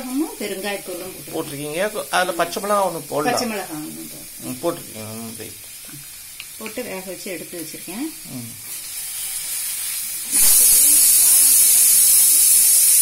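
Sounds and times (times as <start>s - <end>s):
pressure cooker hissing steam: 0.0s - 13.0s.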